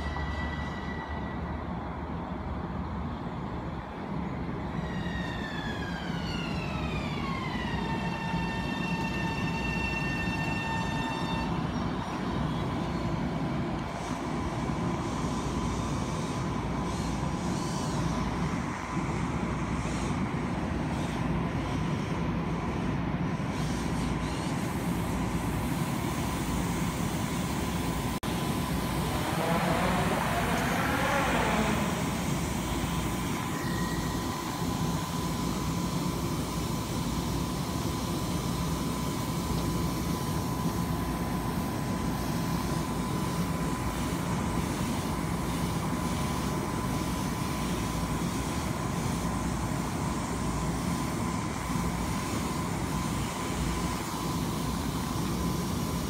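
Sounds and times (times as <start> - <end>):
electric train hum and rumble: 0.0 - 56.0.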